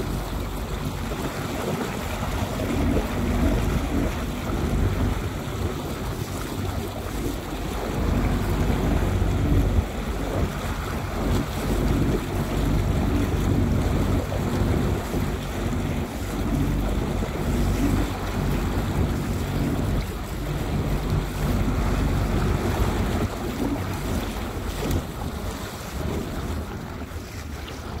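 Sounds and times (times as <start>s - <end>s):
choppy sea water splashing: 0.0s - 28.0s
wind on microphone: 0.0s - 28.0s.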